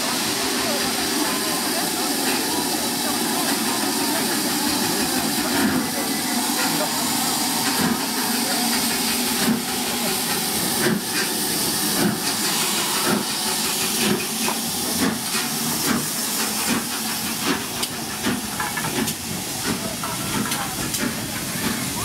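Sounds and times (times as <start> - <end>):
steam hissing: 0.0 - 22.0
steam locomotive beats: 0.0 - 22.0.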